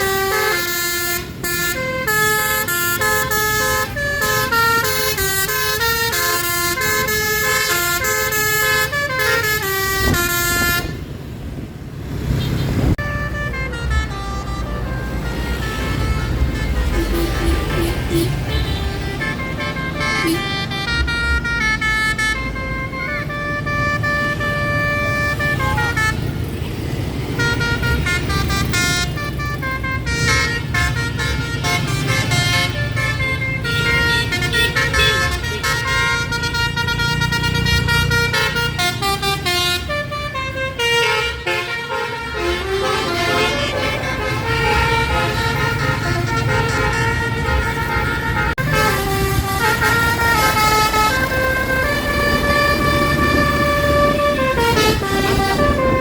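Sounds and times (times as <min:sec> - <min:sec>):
multi-tone bus horn melody: 0:00.0 - 0:11.4, 0:12.4 - 0:56.0.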